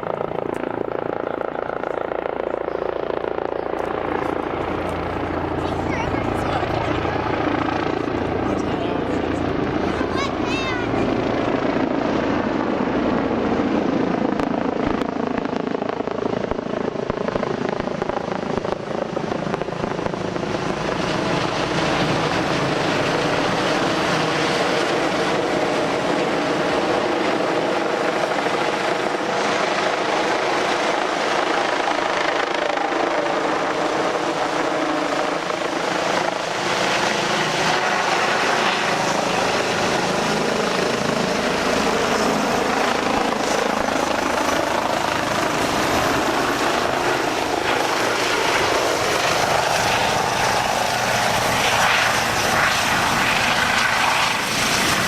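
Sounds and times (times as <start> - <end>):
helicopter rotor and turbine: 0.0 - 55.0.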